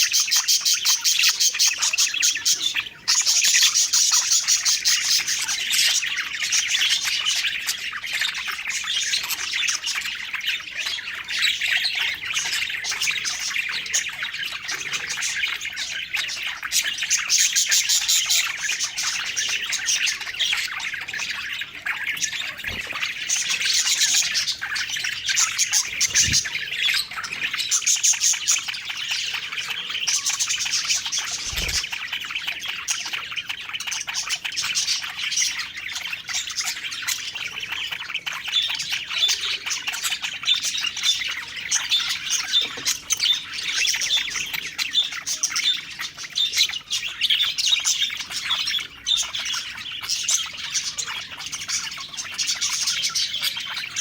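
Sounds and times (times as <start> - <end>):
budgerigars chirping and warbling: 0.0 - 54.0.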